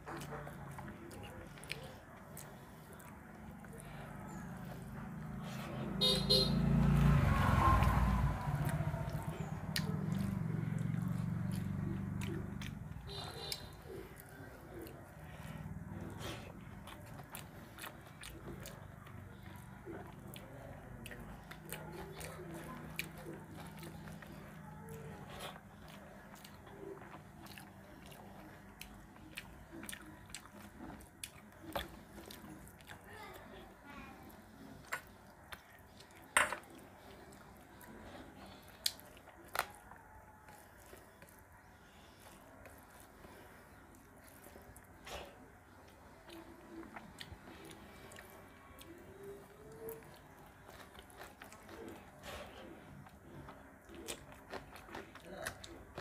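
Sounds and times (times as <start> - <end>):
chewing: 0.0 - 56.0
food squished between fingers: 0.0 - 56.0.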